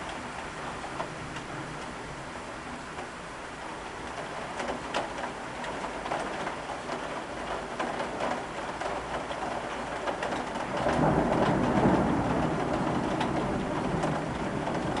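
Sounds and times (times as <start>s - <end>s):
heavy rain: 0.0s - 15.0s
raindrops tapping on window: 0.0s - 15.0s.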